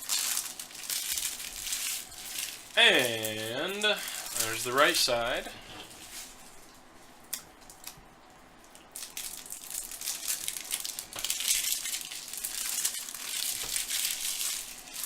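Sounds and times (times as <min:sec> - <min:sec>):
foil wrappers crinkling: 0:00.0 - 0:06.8, 0:08.8 - 0:15.0.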